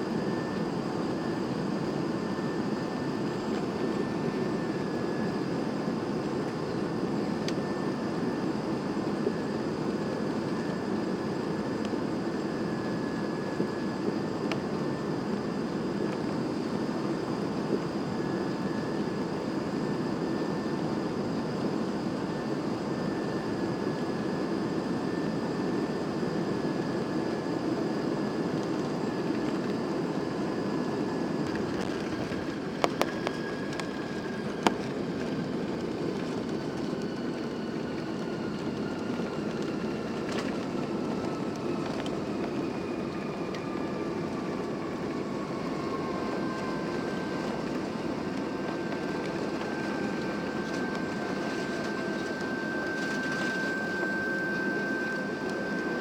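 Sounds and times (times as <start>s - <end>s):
airplane cabin roar: 0.0s - 56.0s
jet engine whine: 0.0s - 56.0s.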